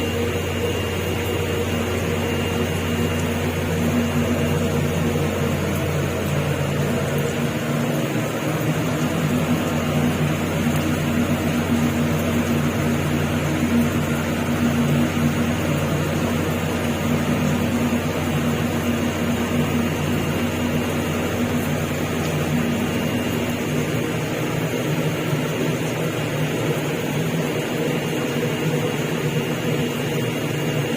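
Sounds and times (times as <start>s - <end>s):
constant hum: 0.0s - 30.9s
ferry engines droning: 0.0s - 30.9s.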